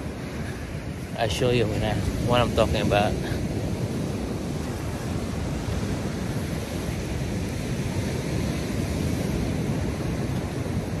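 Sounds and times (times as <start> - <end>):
ocean surf breaking: 0.0 - 11.0
wind buffeting the microphone: 0.0 - 11.0.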